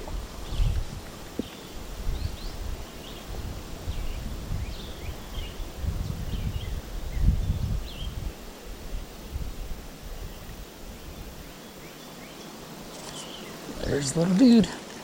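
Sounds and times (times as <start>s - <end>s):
small birds chirping: 0.0s - 8.3s, 9.6s - 14.6s.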